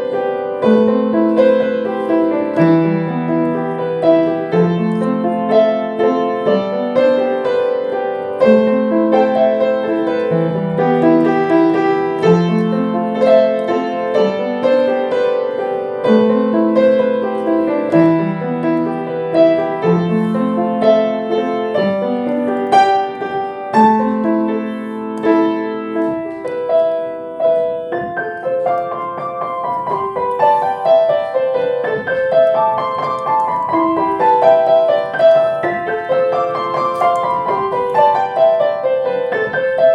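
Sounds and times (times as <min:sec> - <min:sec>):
solo piano melody: 0:00.0 - 0:39.9.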